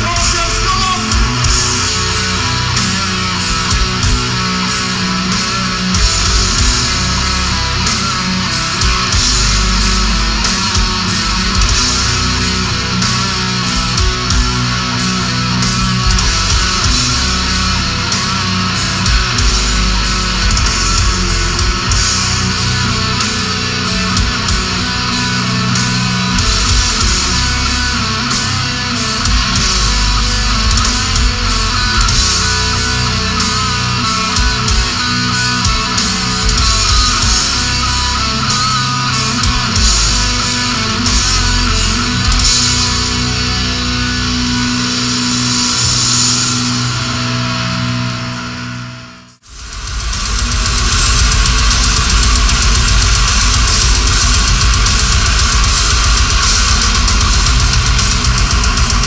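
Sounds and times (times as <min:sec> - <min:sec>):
death metal band playing live: 0:00.0 - 0:59.0
dense drumming: 0:00.0 - 0:59.0
distorted electric guitars: 0:00.0 - 0:59.0.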